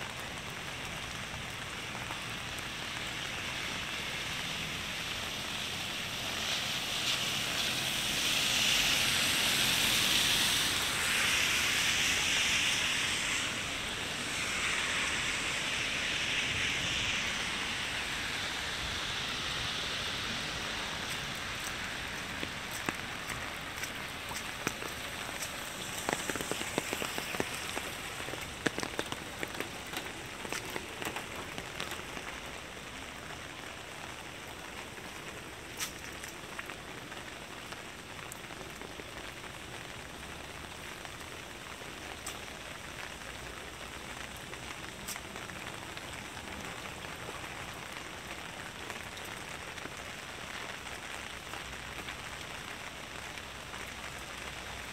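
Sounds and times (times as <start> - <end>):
close raindrop ticks: 0.0 - 54.9
rain on wet pavement: 0.0 - 54.9.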